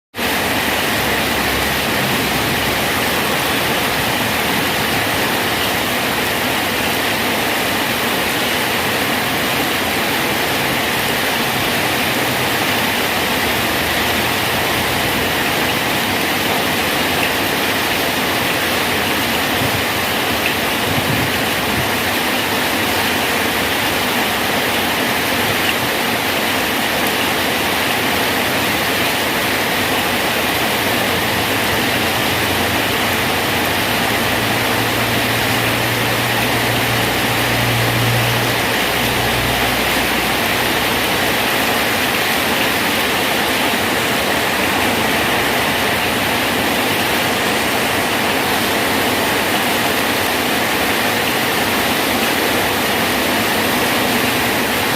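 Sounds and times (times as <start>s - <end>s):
heavy rain splashing on a bridge: 0.2s - 54.9s.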